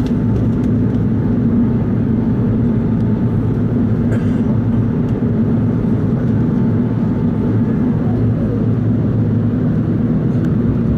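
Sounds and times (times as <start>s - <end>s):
jet engine drone: 0.0s - 10.9s.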